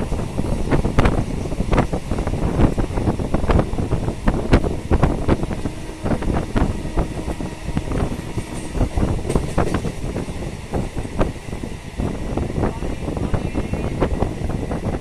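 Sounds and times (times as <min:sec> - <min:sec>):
train rumbling and clattering: 0:00.0 - 0:15.0
wind on microphone: 0:00.0 - 0:15.0.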